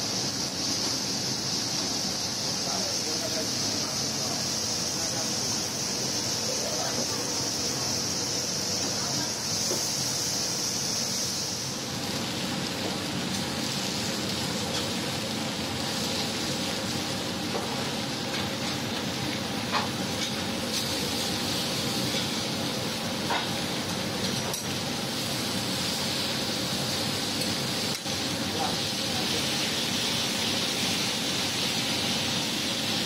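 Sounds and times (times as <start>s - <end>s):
meat sizzling on a griddle: 0.0s - 33.0s
steady background hum: 0.0s - 33.0s.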